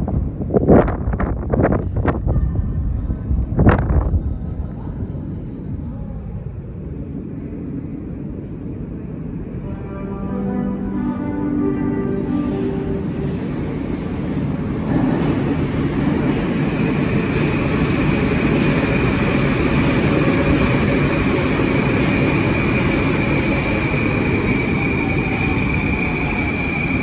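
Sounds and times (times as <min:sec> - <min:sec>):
high train whine: 0:00.0 - 0:27.0
train wheel and rail noise: 0:00.0 - 0:27.0.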